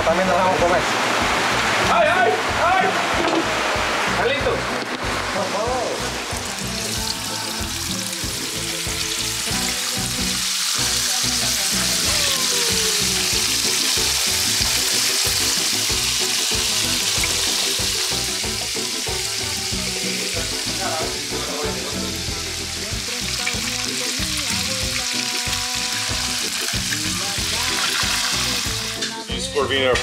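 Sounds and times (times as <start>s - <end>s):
fish deep-frying in oil: 0.1s - 29.4s.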